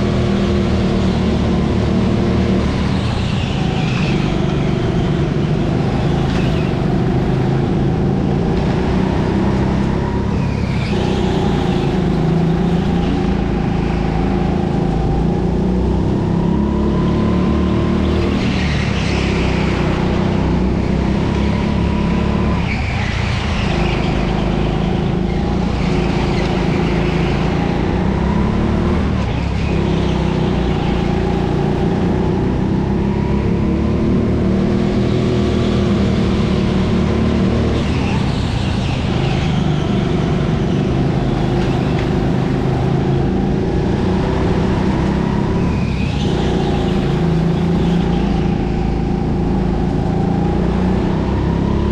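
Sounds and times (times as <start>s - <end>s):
kart engine revving: 0.0s - 51.9s.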